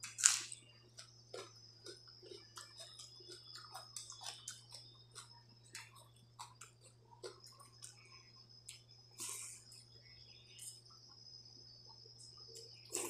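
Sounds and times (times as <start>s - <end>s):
chewing: 0.0s - 9.9s, 11.9s - 13.0s.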